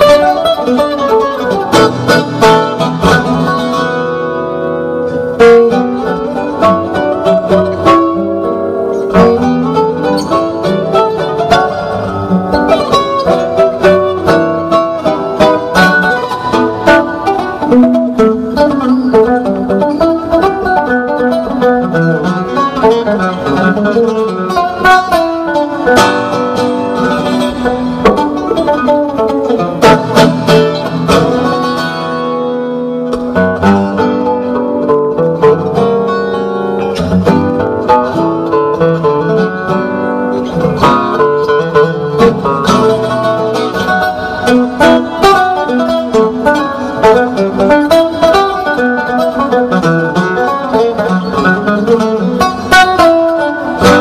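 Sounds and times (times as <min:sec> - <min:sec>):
acoustic guitars jazz duet: 0:00.0 - 0:54.0.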